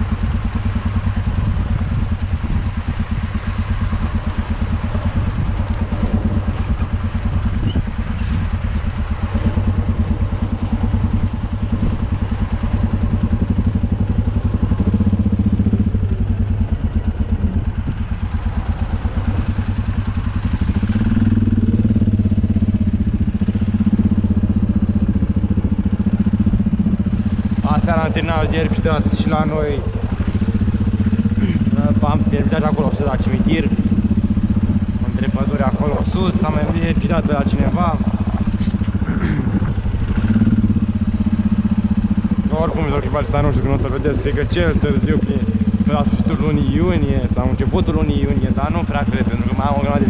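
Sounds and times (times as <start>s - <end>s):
tractor diesel engine chugging: 0.0s - 50.0s.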